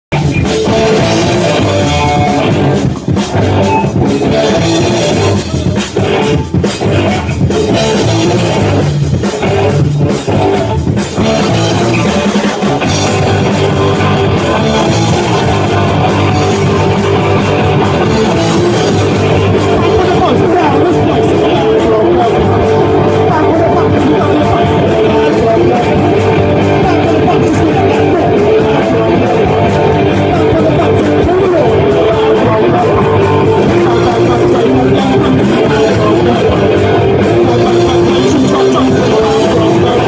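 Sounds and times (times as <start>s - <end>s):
bass guitar: 0.0s - 40.0s
distorted electric guitars: 0.0s - 40.0s
drum kit: 0.1s - 40.0s.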